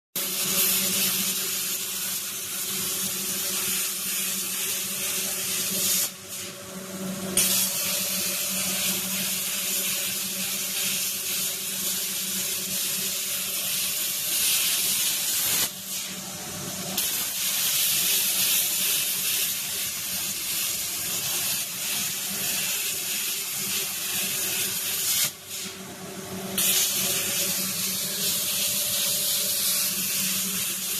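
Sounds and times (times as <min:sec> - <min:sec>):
plasma cutter arc hissing: 0:00.2 - 0:06.6, 0:07.3 - 0:30.9.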